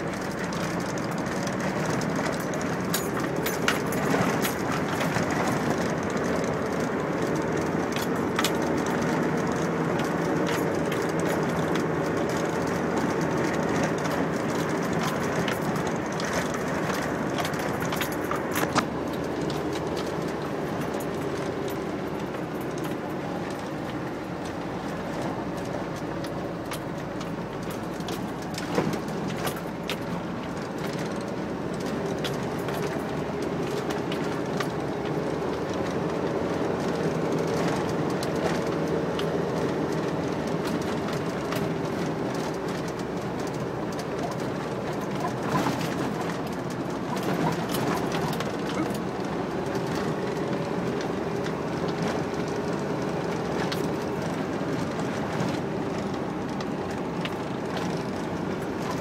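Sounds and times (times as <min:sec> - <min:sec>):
engine and tyre rumble: 0:00.0 - 0:59.0
gravel clicking under tyres: 0:00.0 - 0:59.0.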